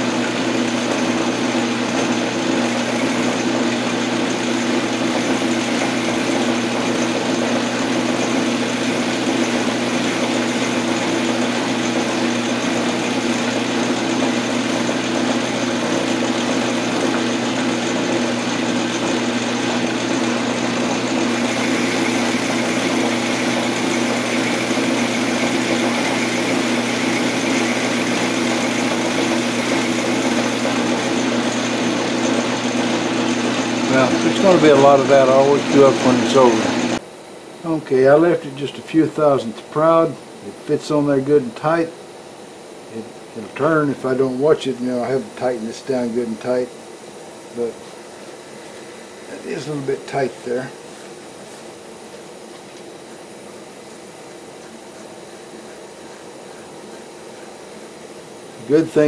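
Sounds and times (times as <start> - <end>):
metal lathe running: 0.0 - 59.0.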